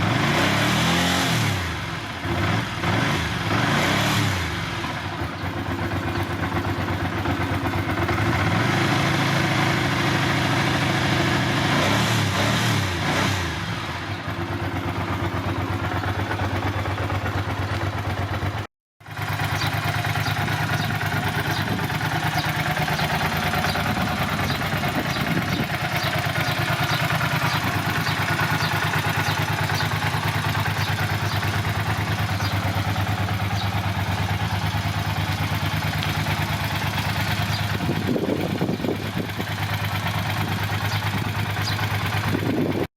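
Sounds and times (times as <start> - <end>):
light regular engine ticking: 0.0 - 42.9
motorcycle engine idling: 0.0 - 42.9.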